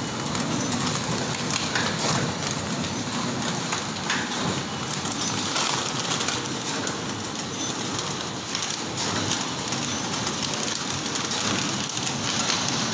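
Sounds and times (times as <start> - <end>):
packing machine clattering: 0.0 - 12.9.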